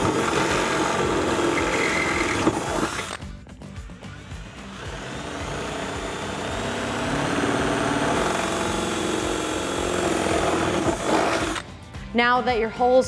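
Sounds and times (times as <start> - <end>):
cordless drill drilling: 0.0 - 3.2, 3.8 - 11.7.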